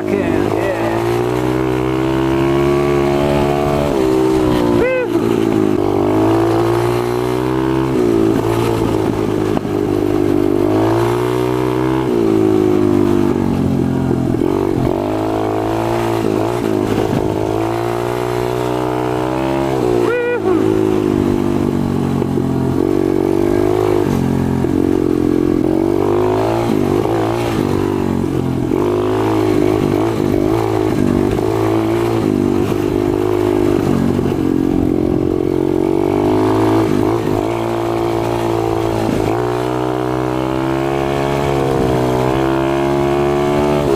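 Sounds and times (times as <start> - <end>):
pit bike engine revving: 0.0 - 43.9.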